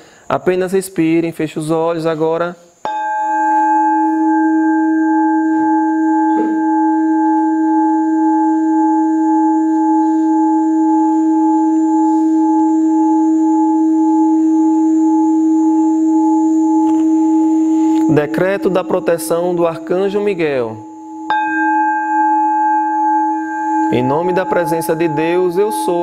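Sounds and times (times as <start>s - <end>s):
crystal singing bowl note: 2.8s - 26.0s.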